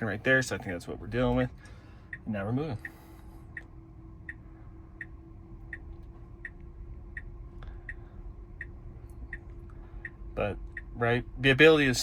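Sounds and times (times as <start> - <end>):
faint steady hum: 0.0 - 12.0
turn signal ticking: 0.0 - 12.0.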